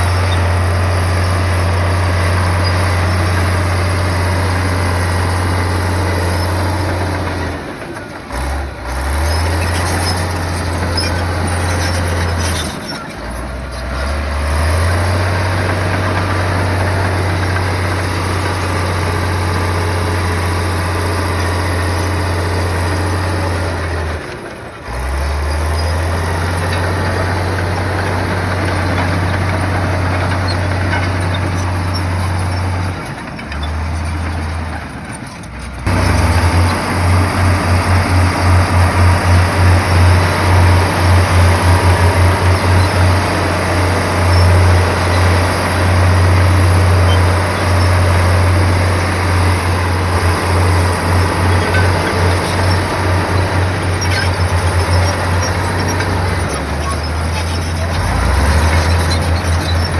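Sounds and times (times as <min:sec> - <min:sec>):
diesel machine engine drone: 0:00.0 - 0:59.9.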